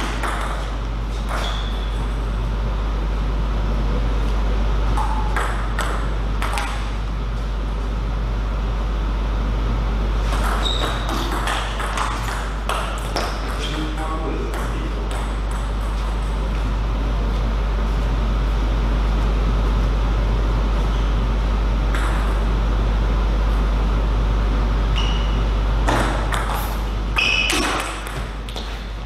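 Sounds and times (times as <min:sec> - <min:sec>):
steady hum and hiss: 0:00.0 - 0:29.0.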